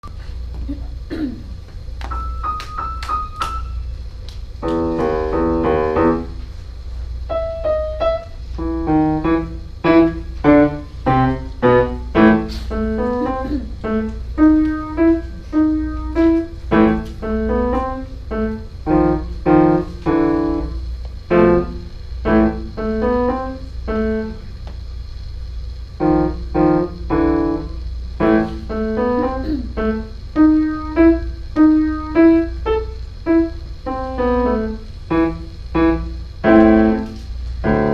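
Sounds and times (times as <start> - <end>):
solo piano piece: 2.1 - 3.9, 4.6 - 6.5, 7.2 - 24.6, 25.9 - 37.9.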